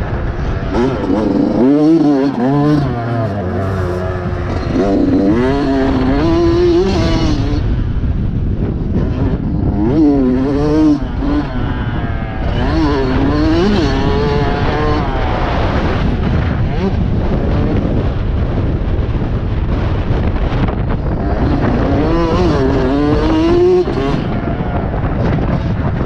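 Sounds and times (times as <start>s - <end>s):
motocross bike engine revving: 0.0s - 26.0s
steady rushing noise: 0.0s - 26.0s.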